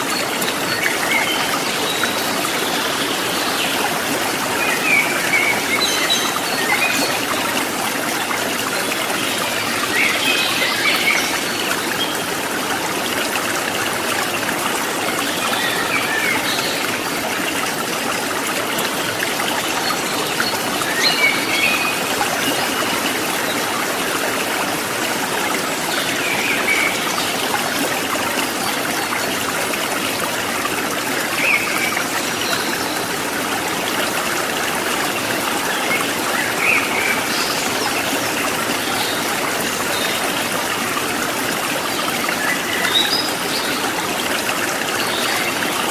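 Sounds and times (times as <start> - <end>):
stream water babbling: 0.0 - 45.9.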